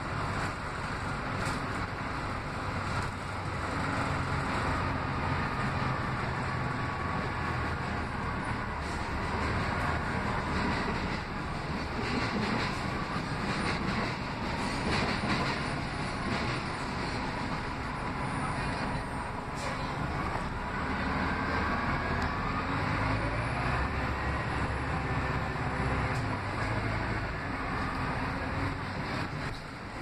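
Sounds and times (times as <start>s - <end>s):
bus engine and road noise: 0.0s - 30.0s.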